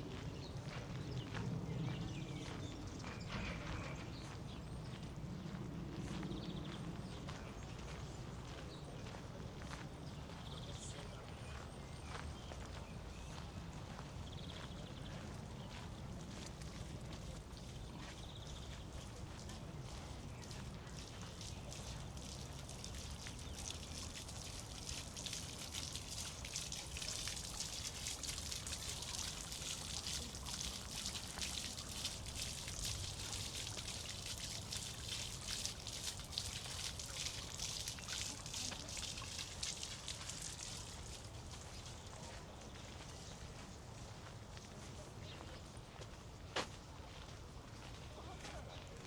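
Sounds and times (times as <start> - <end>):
water splashing and trickling: 0.0 - 49.0.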